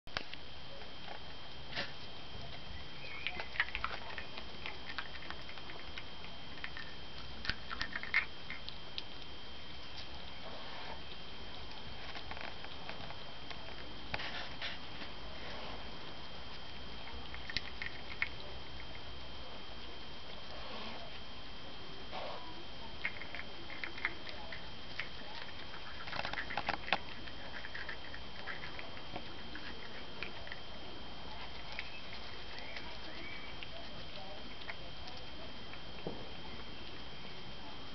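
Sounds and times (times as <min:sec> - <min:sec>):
skunk chewing crunches: 0:00.1 - 0:37.9.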